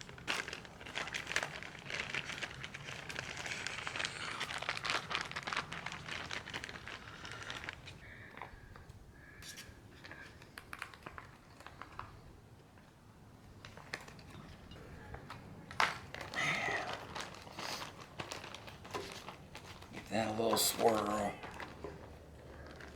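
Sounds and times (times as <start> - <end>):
plastic bag crinkling: 0.0 - 8.5, 10.4 - 12.3, 13.6 - 22.9.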